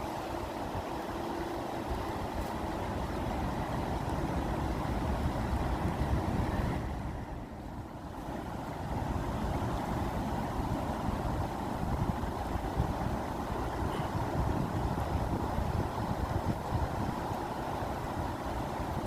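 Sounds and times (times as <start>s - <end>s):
rushing water with deep rumble: 0.0s - 19.0s.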